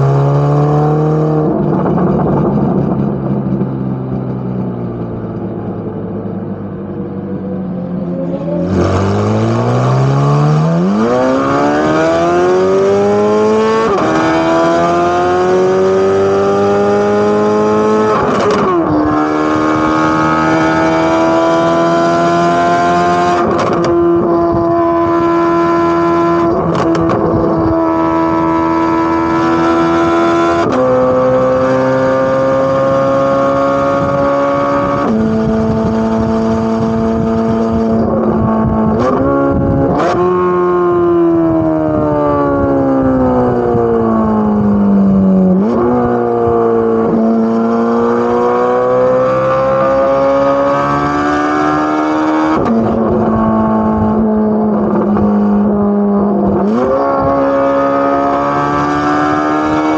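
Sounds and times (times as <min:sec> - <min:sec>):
car engine revving and shifting: 0:00.0 - 0:59.9.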